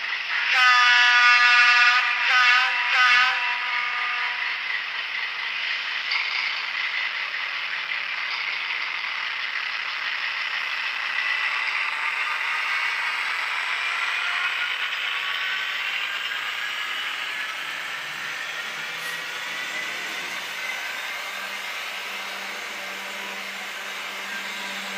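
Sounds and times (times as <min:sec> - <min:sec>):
model train whirr and rattle: 0:00.0 - 0:24.9.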